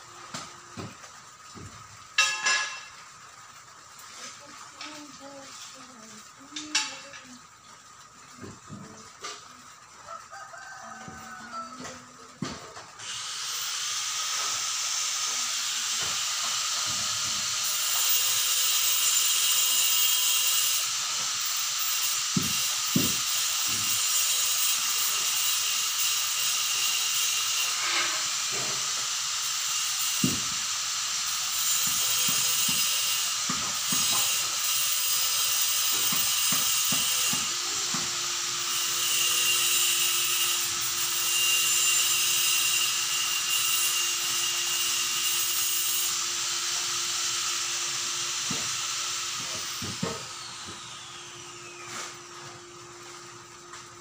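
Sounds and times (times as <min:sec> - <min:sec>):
steady hiss: 0:00.0 - 0:10.2, 0:12.8 - 0:54.0.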